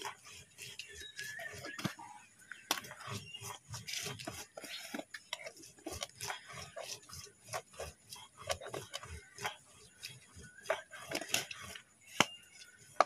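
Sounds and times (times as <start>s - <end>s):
plastic jar lids twisting and clicking: 0.0s - 13.0s
plastic jars rubbing: 0.0s - 13.0s.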